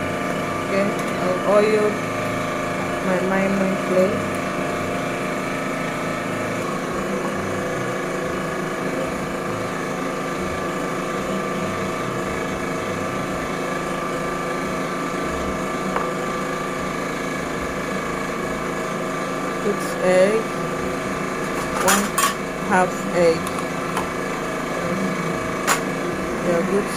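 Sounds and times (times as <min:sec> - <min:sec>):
motor humming: 0:00.0 - 0:26.9.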